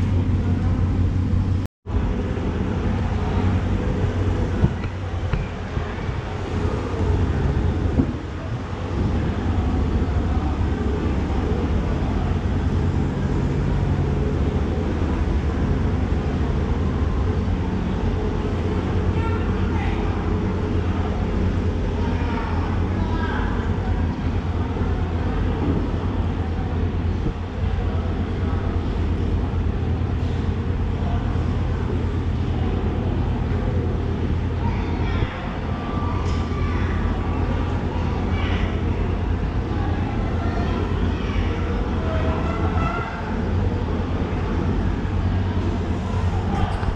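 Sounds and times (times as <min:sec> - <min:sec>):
busy market rumble: 0:00.0 - 0:46.9
faint hum: 0:00.0 - 0:46.9.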